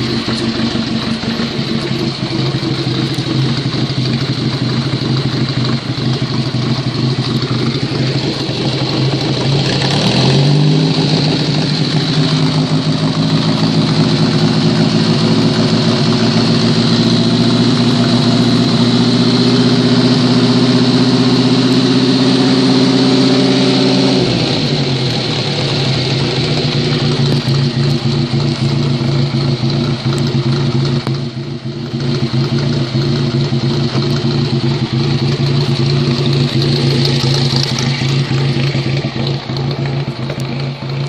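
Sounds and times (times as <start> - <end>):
stationary engine running: 0.0 - 31.3, 32.0 - 41.0.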